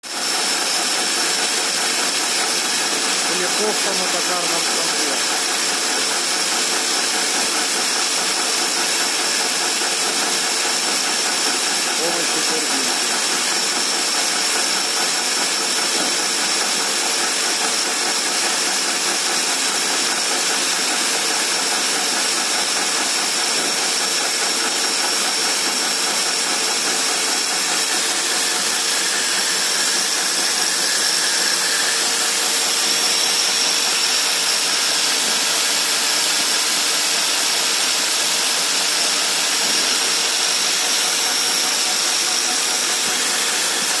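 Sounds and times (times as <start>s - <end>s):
angle grinder grinding: 0.1s - 44.0s.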